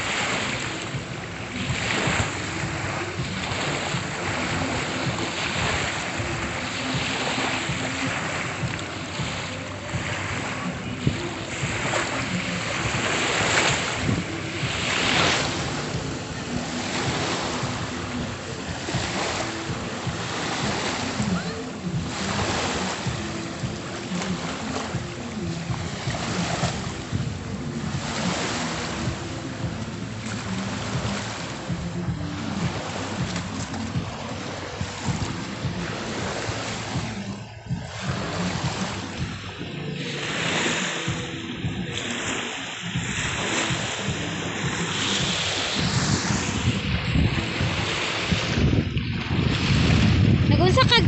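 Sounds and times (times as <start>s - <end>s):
wind buffeting microphone: 0.0s - 42.0s, 42.8s - 51.0s
waves washing on pebbly shore: 0.0s - 51.0s.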